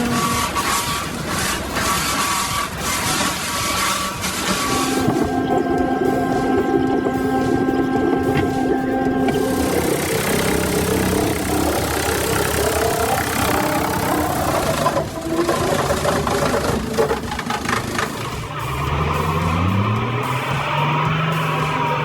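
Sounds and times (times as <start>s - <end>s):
heavy machinery engine running: 0.0s - 21.9s
rushing mechanical noise: 0.0s - 22.0s.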